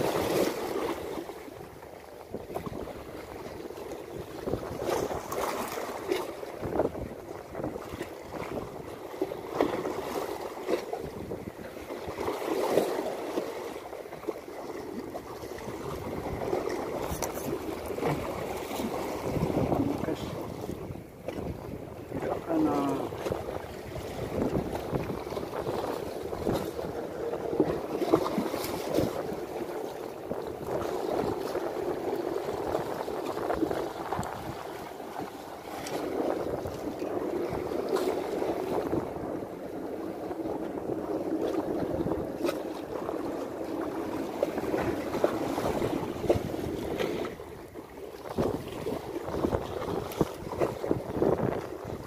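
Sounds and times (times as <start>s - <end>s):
waves splashing against concrete: 0.0s - 52.0s
wind on microphone: 0.0s - 52.0s.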